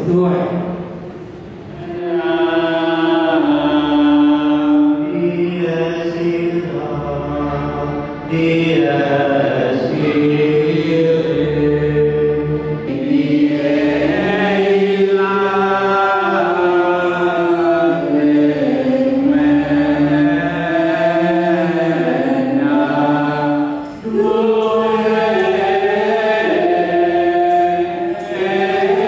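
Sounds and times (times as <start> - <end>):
choir singing a slow hymn: 1.7 - 29.0.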